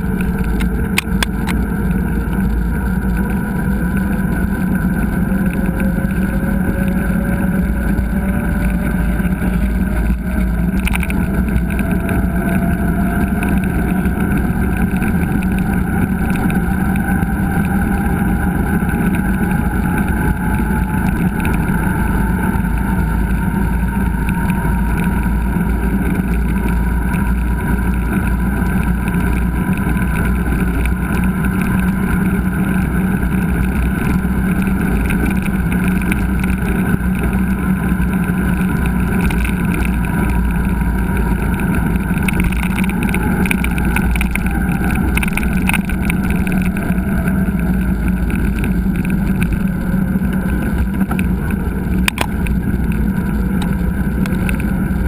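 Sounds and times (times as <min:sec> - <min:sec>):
bike riding rumble: 0:00.0 - 0:55.0
wind noise: 0:00.0 - 0:55.0.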